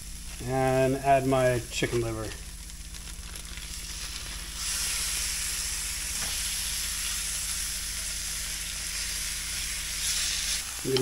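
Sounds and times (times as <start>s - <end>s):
livers sizzling in a skillet: 0.0s - 11.0s.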